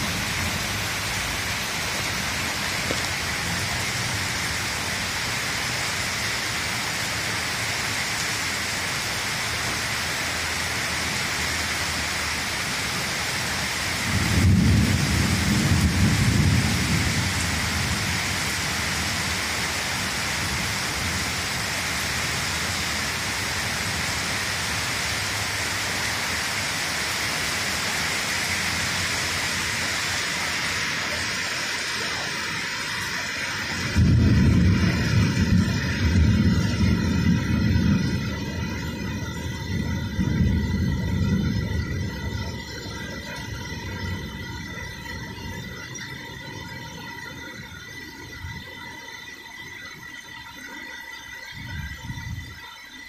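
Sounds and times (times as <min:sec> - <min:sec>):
thunder rumble: 0:00.0 - 0:06.6, 0:12.4 - 0:50.0
rain falling: 0:00.0 - 0:53.0.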